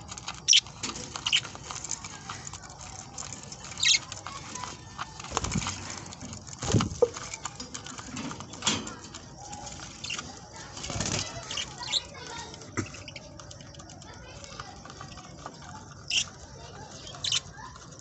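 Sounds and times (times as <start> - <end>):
birds pecking and scrabbling: 0.0 - 18.0.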